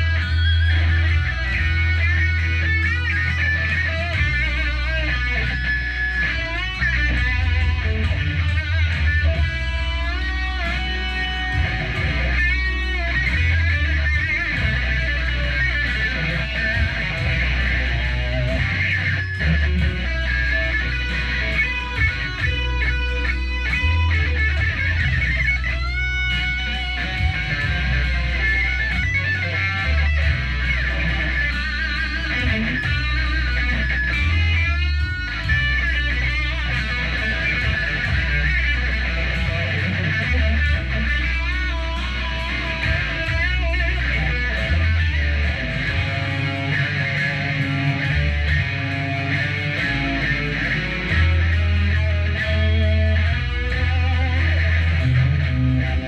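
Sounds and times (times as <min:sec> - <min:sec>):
electric guitar lead line: 0:00.0 - 0:56.0.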